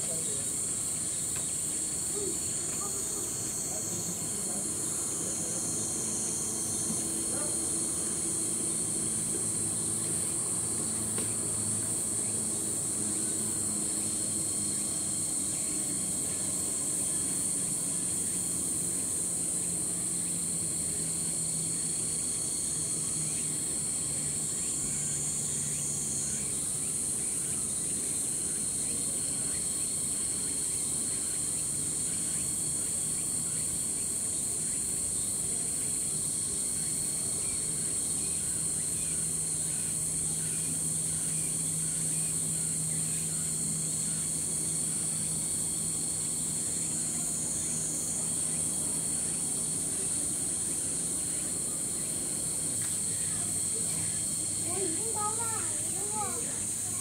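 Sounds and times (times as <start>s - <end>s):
cicadas shrilling: 0.0s - 57.0s.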